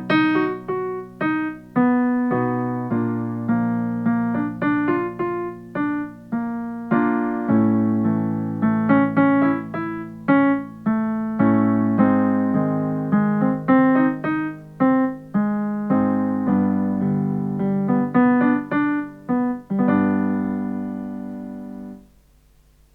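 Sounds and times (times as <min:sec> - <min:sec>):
piano warm-up accompaniment: 0:00.0 - 0:22.8.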